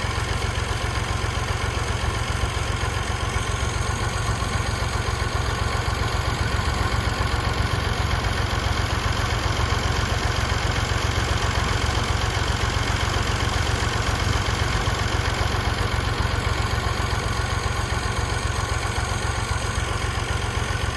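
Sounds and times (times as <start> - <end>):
tractor diesel engine idling: 0.0 - 20.9.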